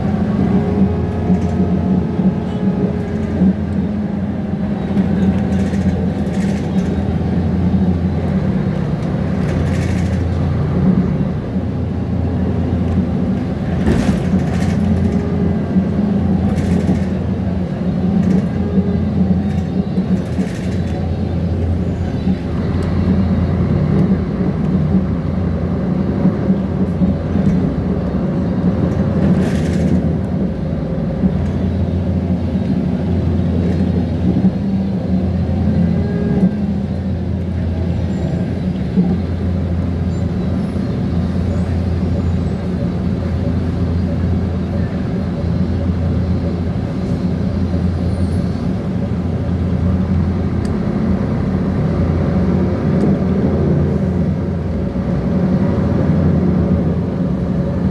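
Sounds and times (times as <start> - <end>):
bus diesel engine droning: 0.0 - 57.9.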